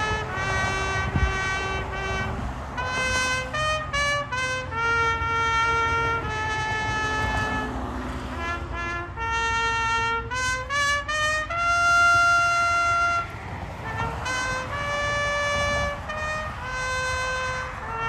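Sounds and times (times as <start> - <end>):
solo trumpet melody: 0.0 - 18.0.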